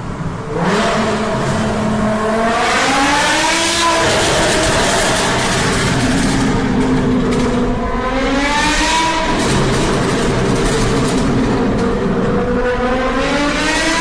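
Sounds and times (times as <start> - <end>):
loud engine revving: 0.5 - 14.0.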